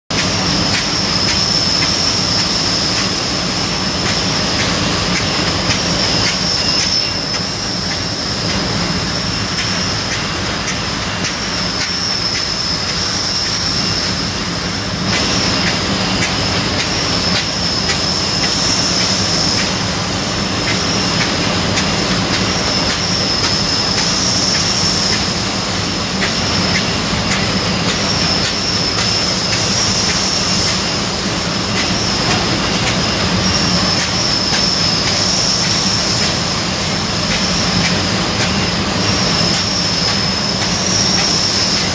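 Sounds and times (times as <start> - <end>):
machine clicks and clacks: 0.1 - 3.3, 3.9 - 8.9, 9.5 - 13.1, 15.1 - 19.9, 20.6 - 25.5, 26.1 - 31.0, 31.7 - 41.9
machine hissing: 0.1 - 41.9.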